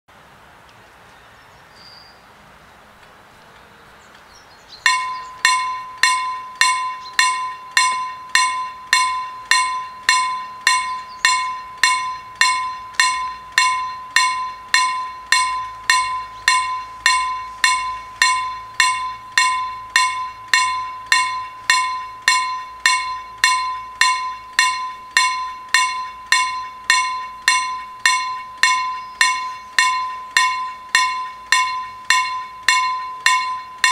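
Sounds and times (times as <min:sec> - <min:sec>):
level crossing warning bell: 0:04.8 - 0:33.9.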